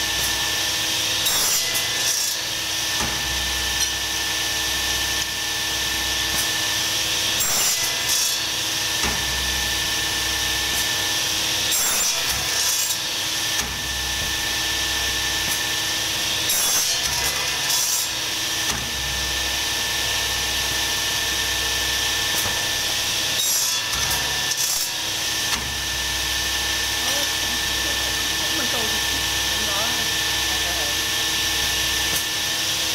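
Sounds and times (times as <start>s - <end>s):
machine humming and hissing: 0.0s - 32.9s.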